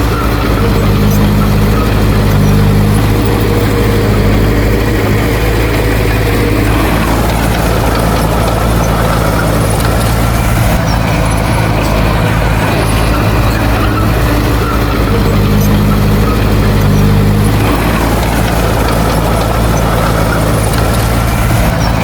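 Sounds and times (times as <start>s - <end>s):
heavy diesel machinery running: 0.0s - 22.0s
higher engine note: 0.0s - 22.0s.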